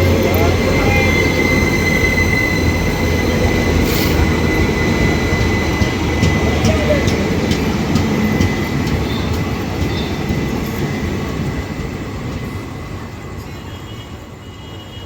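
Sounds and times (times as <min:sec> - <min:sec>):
sharp clicks of train wheels: 0:00.0 - 0:13.5
train rumbling on tracks: 0:00.0 - 0:15.0.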